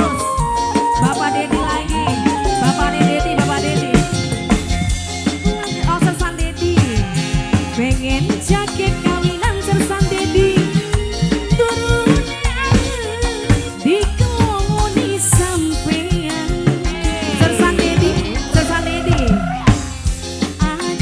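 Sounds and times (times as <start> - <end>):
drum beat: 0.0 - 21.0
rattling percussion: 0.0 - 21.0
sliding melody line: 0.0 - 21.0.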